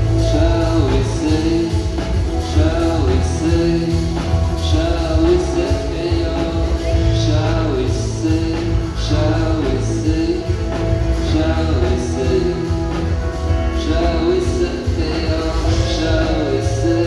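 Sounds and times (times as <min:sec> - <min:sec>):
heavy bass: 0:00.0 - 0:17.0
live rock band playing: 0:00.0 - 0:17.0
person singing: 0:00.0 - 0:17.0.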